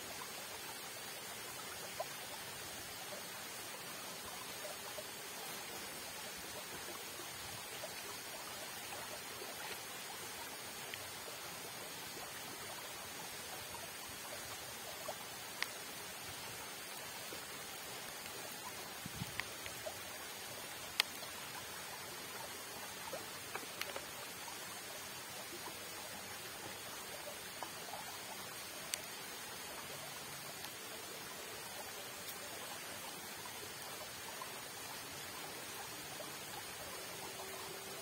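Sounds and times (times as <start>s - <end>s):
fast-flowing water rushing: 0.0s - 38.0s.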